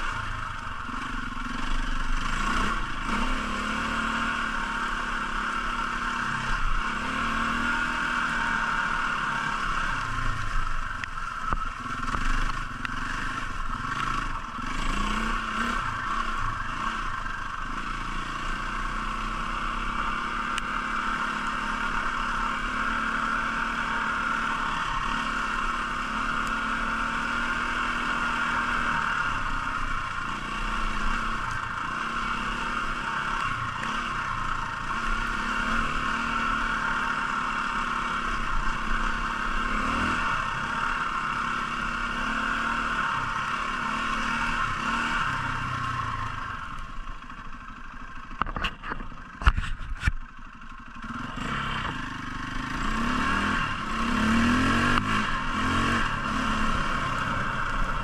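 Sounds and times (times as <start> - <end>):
motorbike engine running: 0.0 - 58.0.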